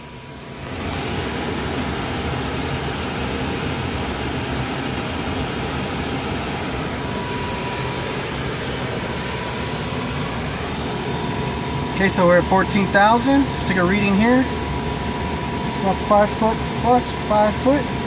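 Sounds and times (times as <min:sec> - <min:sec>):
cockpit fans humming: 0:00.0 - 0:18.0.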